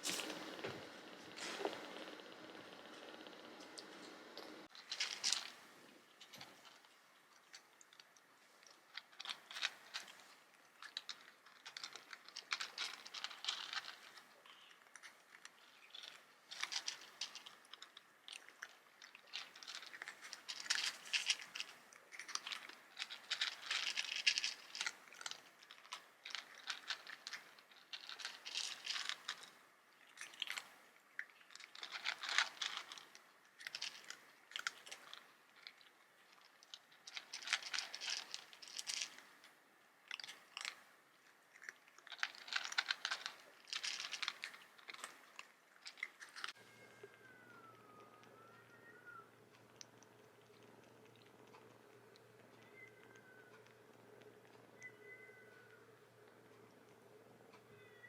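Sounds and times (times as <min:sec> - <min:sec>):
crunching chewing sounds: 0:00.0 - 0:57.8.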